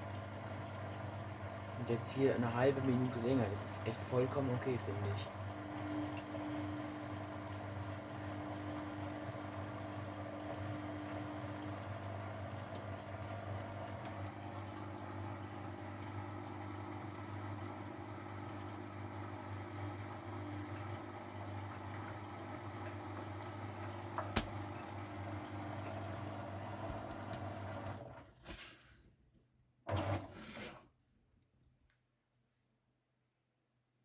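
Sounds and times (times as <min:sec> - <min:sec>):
washing machine motor hum: 0:00.0 - 0:28.3.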